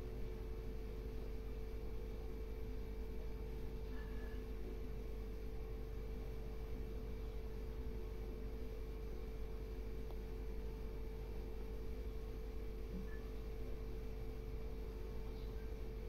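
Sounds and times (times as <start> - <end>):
steady hum with mid-pitched tone: 0.0 - 16.0.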